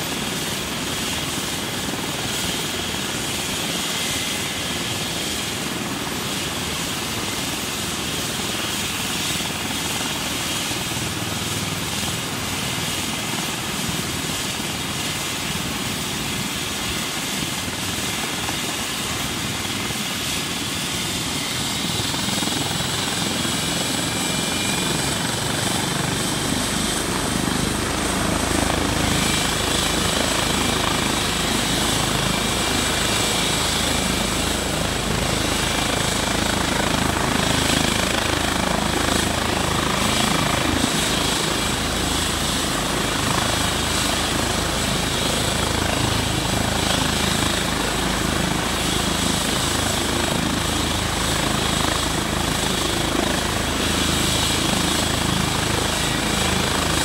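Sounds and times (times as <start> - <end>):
helicopter idling: 0.0 - 57.0.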